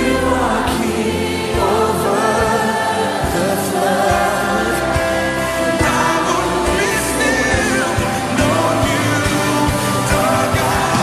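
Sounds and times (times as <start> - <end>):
background music: 0.0 - 11.0
voices singing worship song: 0.0 - 11.0.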